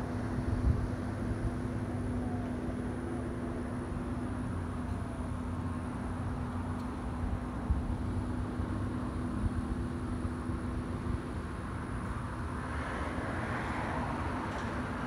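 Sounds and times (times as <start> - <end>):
road noise rush: 0.0 - 15.0
vehicle rumble and hum: 0.0 - 15.0.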